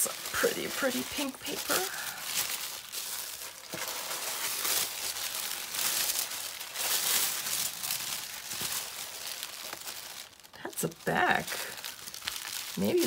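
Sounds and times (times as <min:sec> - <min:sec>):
wrapping paper crinkling: 0:00.0 - 0:13.0.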